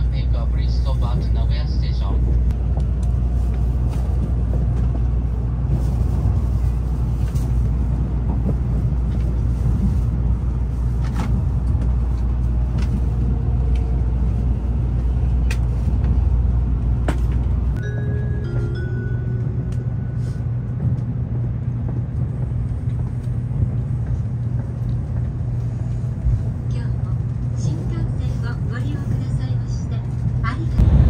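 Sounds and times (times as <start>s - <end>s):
train cabin rumble: 0.0s - 31.0s.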